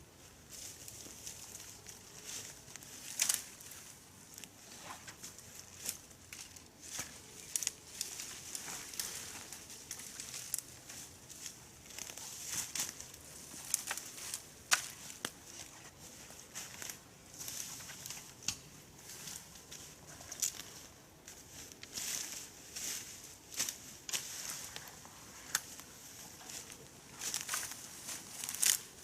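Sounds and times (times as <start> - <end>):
dry leaves and twigs rustling: 0.0 - 29.0.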